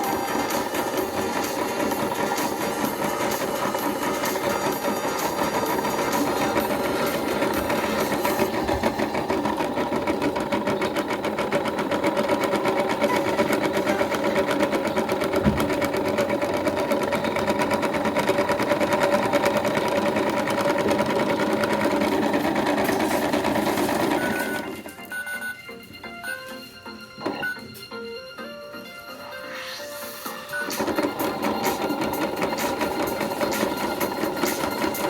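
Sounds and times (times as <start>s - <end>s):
toy washing machine motor whirring: 0.0s - 25.4s, 29.3s - 35.0s.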